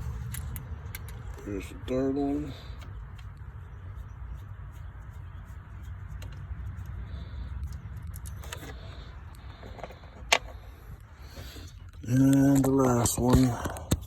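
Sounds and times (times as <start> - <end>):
low handling rumble: 0.0 - 13.9.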